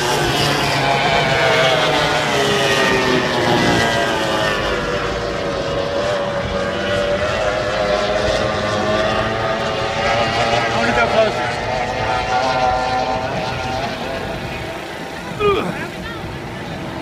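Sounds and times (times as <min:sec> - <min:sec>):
powerboat engine speeding past: 0:00.0 - 0:17.0.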